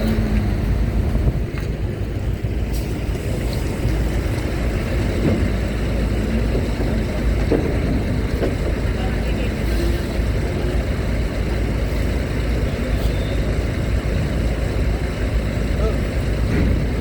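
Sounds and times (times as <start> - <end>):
heavy vehicle engines rumbling: 0.0 - 17.0.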